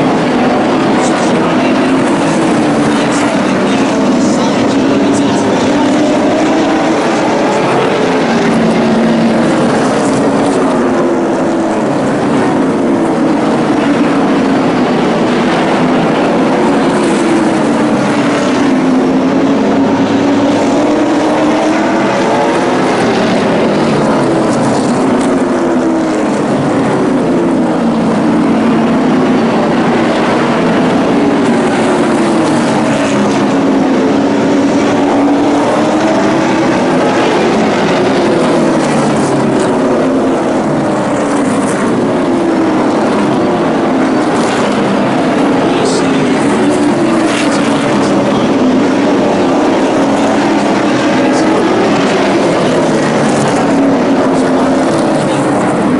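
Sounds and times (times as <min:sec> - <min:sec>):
race truck engines revving: 0:00.0 - 0:55.9.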